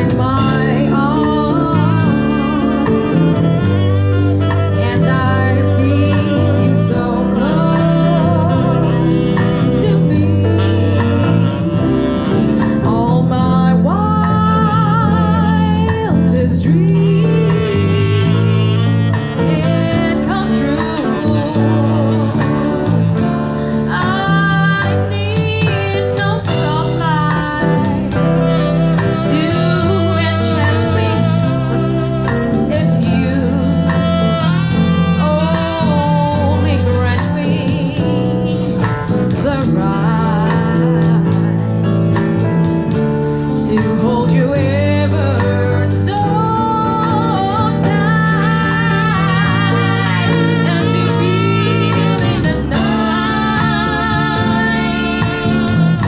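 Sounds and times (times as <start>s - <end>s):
bass guitar low notes: 0.0s - 56.0s
jazz band playing a ballad: 0.0s - 56.0s
lead melody with vibrato: 0.0s - 56.0s.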